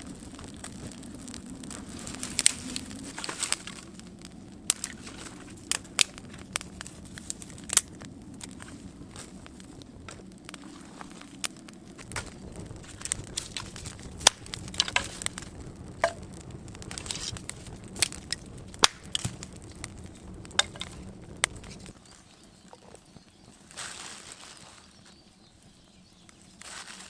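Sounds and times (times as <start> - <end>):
campfire crackling and popping: 0.0 - 27.0
flame rushing: 0.0 - 27.0.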